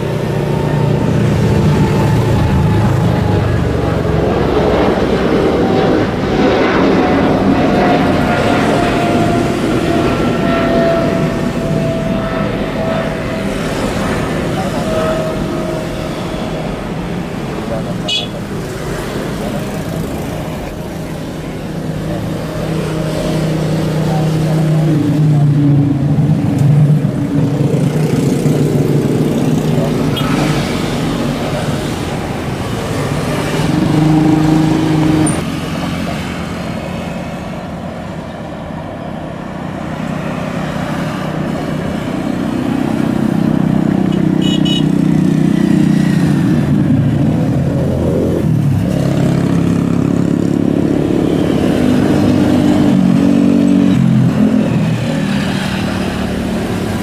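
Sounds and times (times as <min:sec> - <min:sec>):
cars passing: 0:00.0 - 0:57.0
motorcycles passing: 0:00.0 - 0:57.0.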